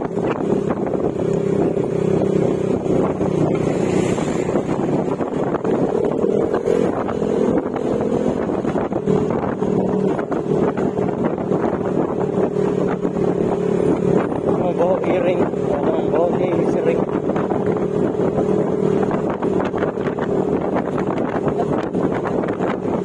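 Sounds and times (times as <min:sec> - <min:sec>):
scooter engine running: 0:00.0 - 0:23.0
wind buffeting microphone: 0:00.0 - 0:23.0.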